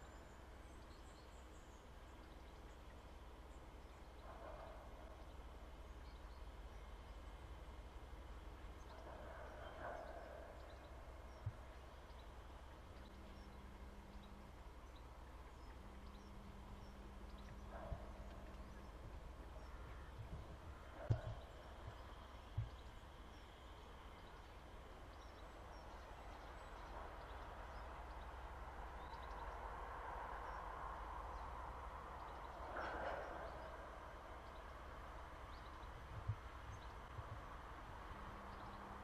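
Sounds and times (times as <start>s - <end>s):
faint low rumble: 0.0s - 39.0s.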